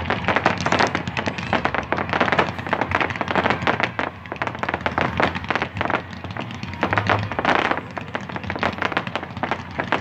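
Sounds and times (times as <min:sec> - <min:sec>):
fireworks popping and crackling: 0:00.0 - 0:10.0.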